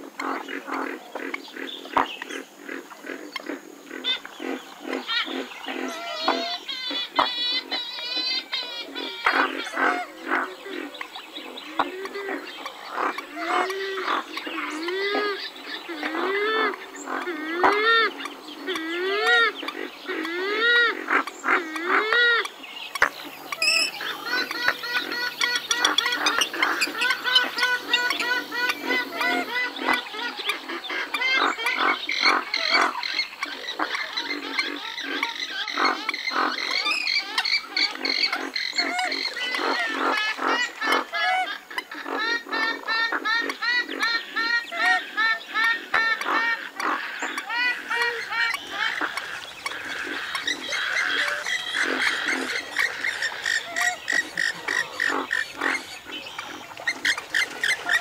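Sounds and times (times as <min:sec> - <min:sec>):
swamphen squawks and honks: 0:00.0 - 0:58.0.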